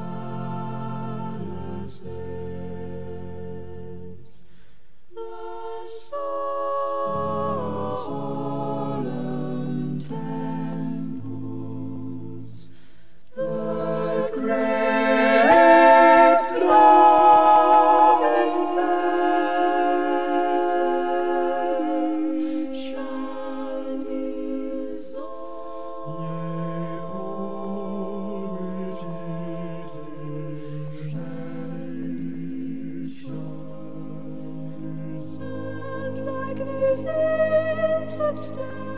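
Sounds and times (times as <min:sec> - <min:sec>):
vocal ensemble singing in harmony: 0:00.0 - 0:38.9.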